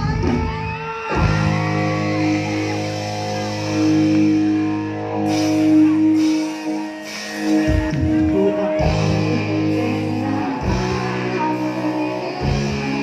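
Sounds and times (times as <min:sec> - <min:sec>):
bass line: 0:00.0 - 0:13.0
live band playing chords: 0:00.0 - 0:13.0.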